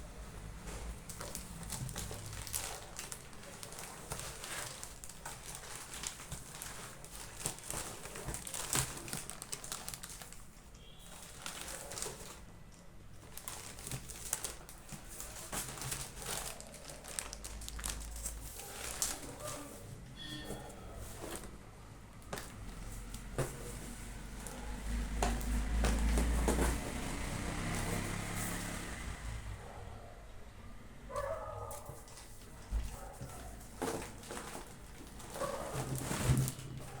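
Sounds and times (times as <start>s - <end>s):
packaging crinkling and rustling: 0.0s - 29.1s, 31.7s - 37.0s.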